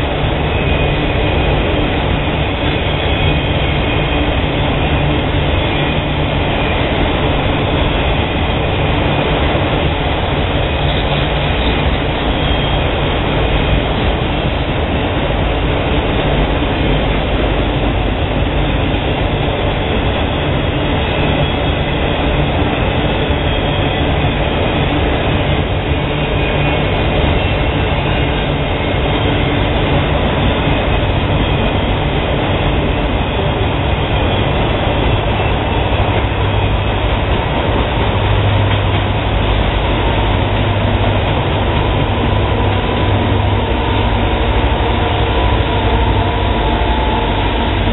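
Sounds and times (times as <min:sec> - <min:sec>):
diesel engine hum: 0:00.0 - 0:47.9
train wheels rumbling on rail: 0:00.0 - 0:47.9.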